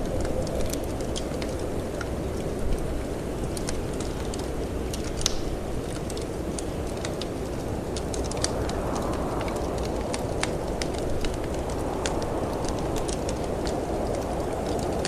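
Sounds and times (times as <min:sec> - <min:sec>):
low rush of wind: 0:00.0 - 0:15.0
wood fire crackling and popping: 0:00.0 - 0:15.0.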